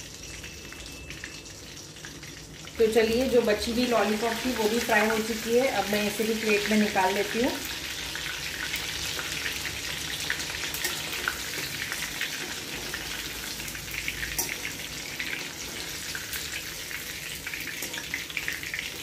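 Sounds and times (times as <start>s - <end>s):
deep-frying oil sizzling: 0.0s - 19.0s.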